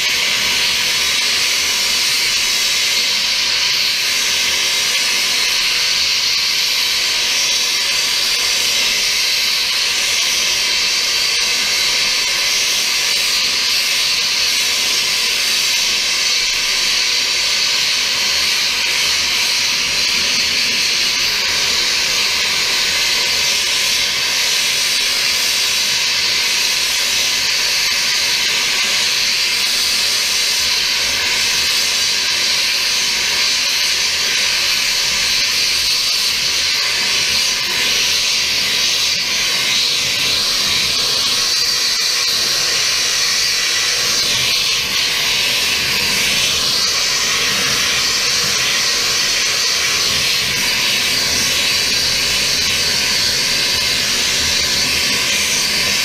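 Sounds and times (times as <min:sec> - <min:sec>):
tool hissing: 0:00.0 - 0:56.0.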